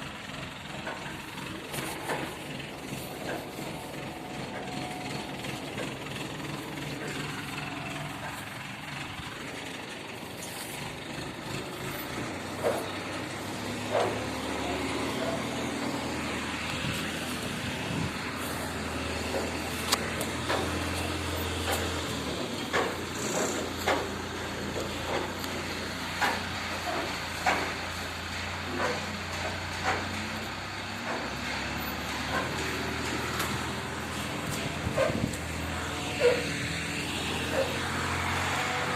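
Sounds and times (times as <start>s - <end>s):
low mechanical hum: 0.0s - 38.9s
sharp clicks and knocks: 0.7s - 9.8s, 10.4s - 36.4s.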